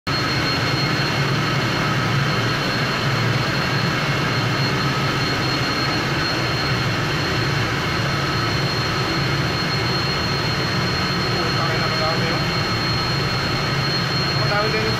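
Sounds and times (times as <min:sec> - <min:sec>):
engine-room machinery deep drone: 0:00.1 - 0:14.9
steady high whine: 0:00.1 - 0:14.9.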